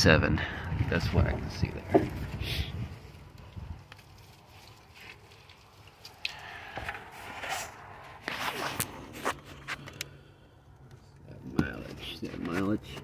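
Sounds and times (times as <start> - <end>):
handling rustles and scrapes: 1.0 - 10.2, 10.9 - 13.0.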